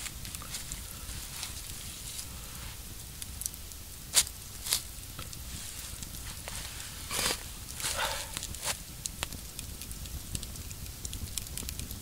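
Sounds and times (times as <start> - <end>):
low steady rumble: 0.0 - 11.4
campfire crackling: 0.0 - 12.0.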